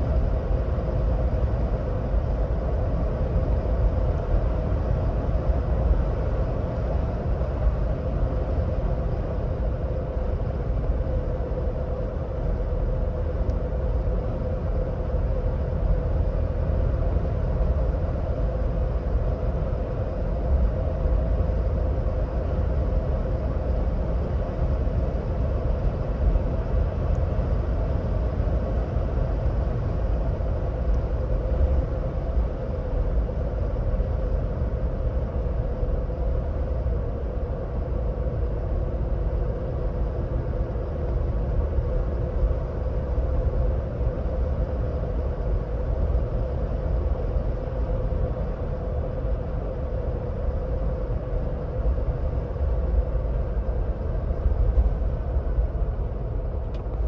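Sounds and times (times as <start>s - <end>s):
drivetrain droning hum: 0.0s - 57.0s
road and tyre rumble: 0.0s - 57.0s.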